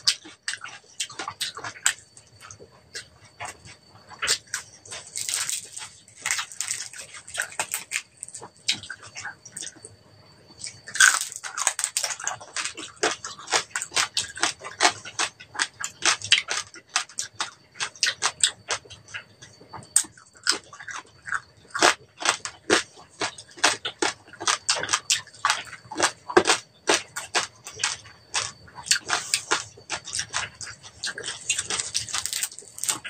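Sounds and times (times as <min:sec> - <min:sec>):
crunching crispy pork skin: 0:03.0 - 0:09.8, 0:10.6 - 0:33.0.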